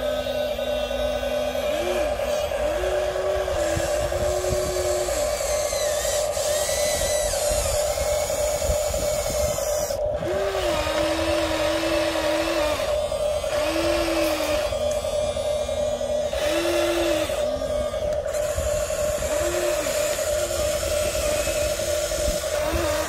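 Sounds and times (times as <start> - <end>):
toy excavator motors whining: 0.0 - 23.0.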